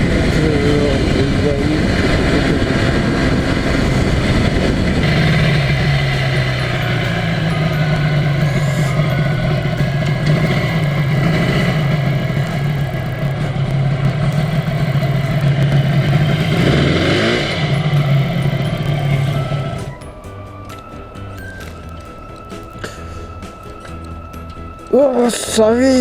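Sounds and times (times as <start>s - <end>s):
motorcycle two-stroke engine: 0.0s - 26.0s.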